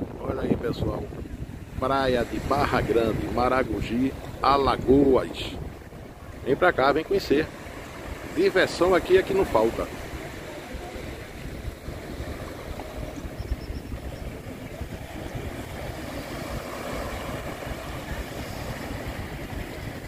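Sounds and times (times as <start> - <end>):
waves washing onto beach: 0.0 - 20.0
wind buffeting microphone: 0.0 - 20.0.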